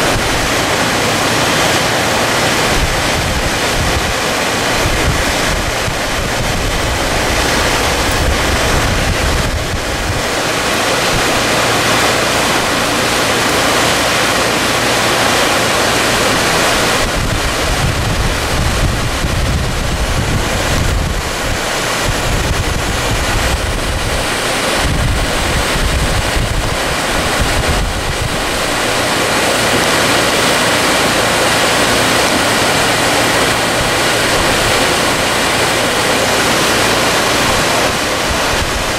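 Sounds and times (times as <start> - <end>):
floodwater rushing: 0.0 - 38.9
wind buffeting microphone: 0.0 - 38.9.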